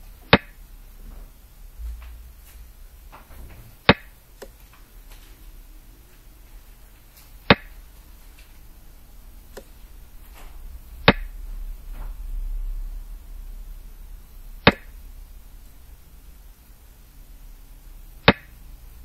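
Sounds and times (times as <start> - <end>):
low hum: 0.0 - 6.8, 7.4 - 19.0.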